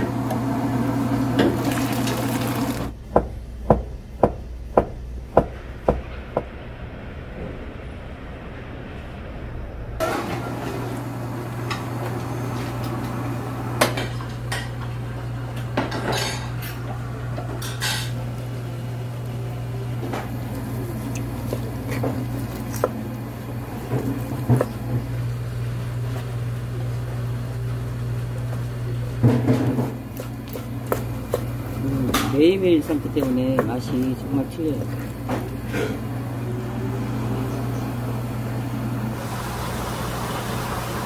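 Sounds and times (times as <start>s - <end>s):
steady low hum: 2.7s - 41.0s.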